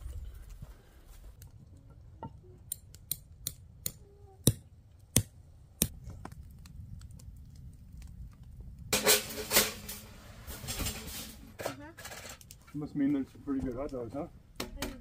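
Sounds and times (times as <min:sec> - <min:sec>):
campfire crackling and popping: 0:01.4 - 0:15.0.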